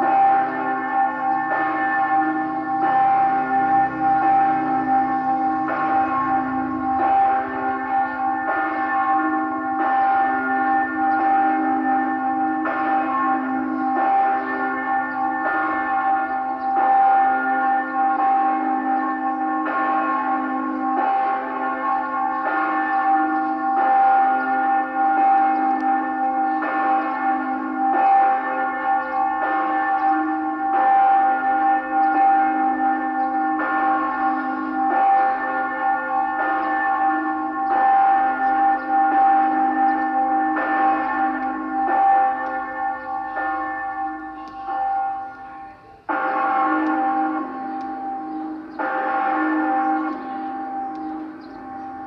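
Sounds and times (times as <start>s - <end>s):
church bells ringing: 0.0s - 52.0s.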